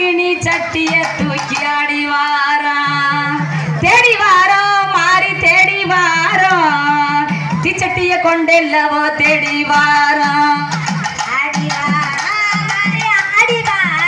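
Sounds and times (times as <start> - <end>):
steady percussion: 0.0 - 14.0.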